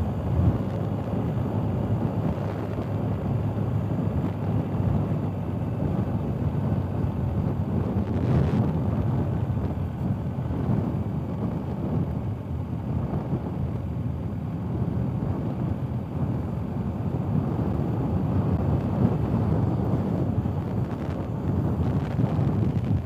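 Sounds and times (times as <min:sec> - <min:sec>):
motorcycle and tyre rumble: 0:00.0 - 0:23.0
wind rushing over microphone: 0:00.0 - 0:23.0.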